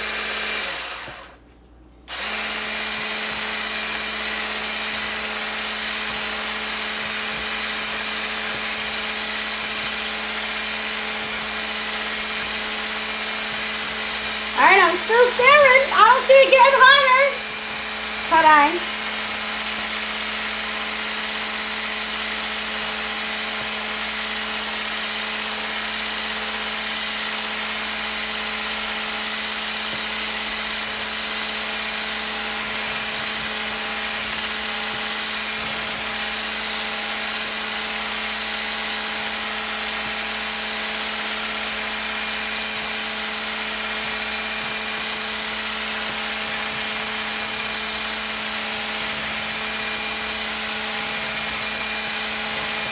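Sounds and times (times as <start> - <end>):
electric milk frother whisking: 0.0 - 1.4, 2.1 - 52.9.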